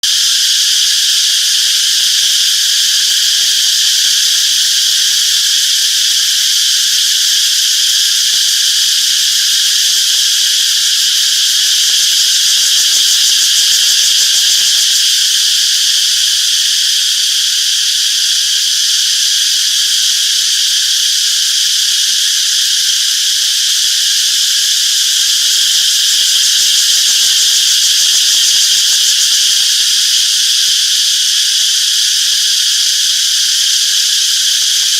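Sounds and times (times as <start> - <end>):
cicadas buzzing: 0.0 - 34.9.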